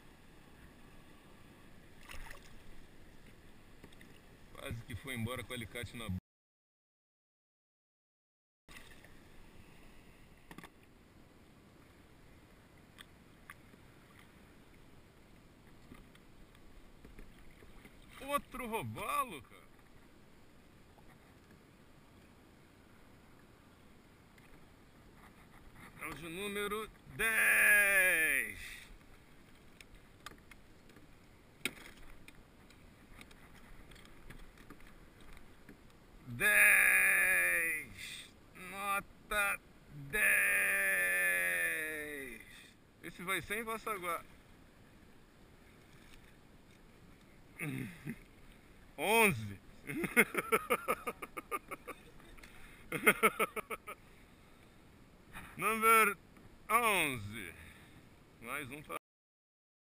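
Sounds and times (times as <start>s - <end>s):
faint steady hiss: 0.0s - 6.2s, 8.7s - 59.0s.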